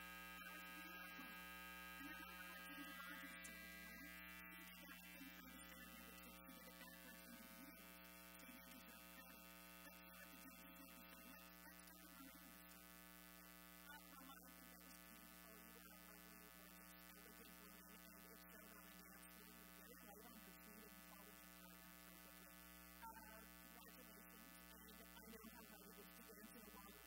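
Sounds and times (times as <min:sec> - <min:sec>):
faint electrical mains hum: 0:00.0 - 0:27.0.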